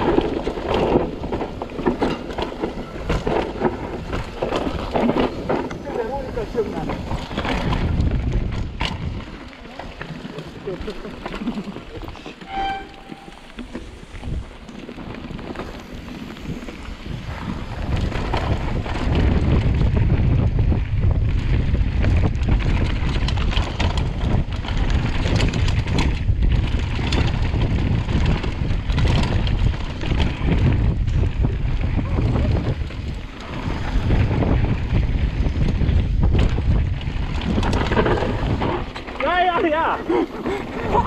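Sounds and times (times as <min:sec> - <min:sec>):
bike rattling and knocking: 0:00.0 - 0:41.0
wind rushing over microphone: 0:00.0 - 0:41.0.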